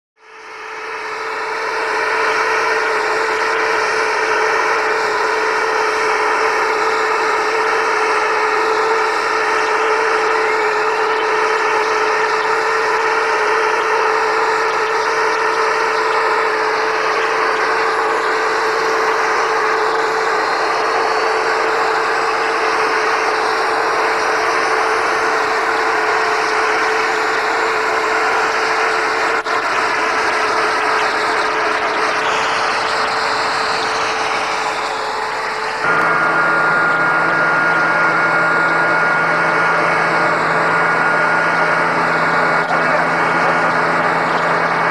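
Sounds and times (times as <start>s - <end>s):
helicopter turbine whine: 0.2s - 44.9s.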